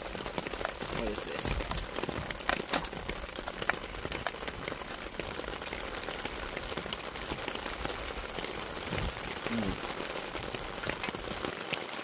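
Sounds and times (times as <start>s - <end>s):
raindrops ticking close by: 0.0s - 12.0s
steady rain: 0.0s - 12.0s.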